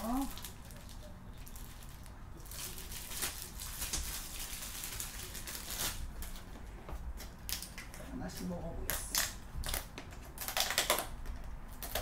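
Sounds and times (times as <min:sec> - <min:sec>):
plastic wrapping crinkling: 0:00.0 - 0:08.1, 0:08.9 - 0:12.0.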